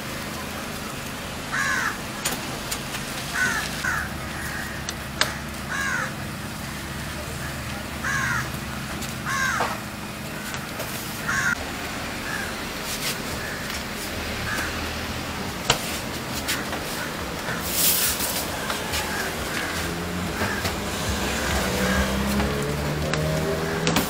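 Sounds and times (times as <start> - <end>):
bird cawing: 1.4 - 2.4, 3.2 - 15.4, 16.3 - 24.0.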